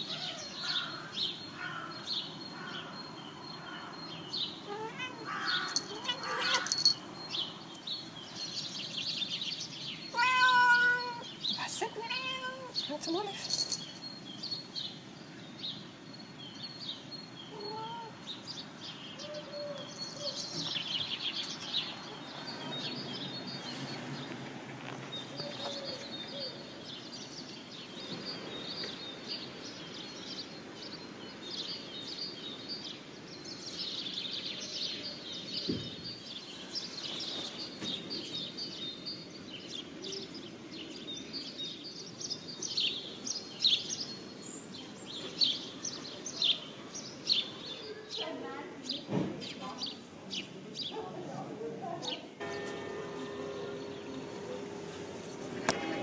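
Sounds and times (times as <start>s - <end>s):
small birds chirping: 0.0s - 56.0s
steady background noise: 0.0s - 56.0s.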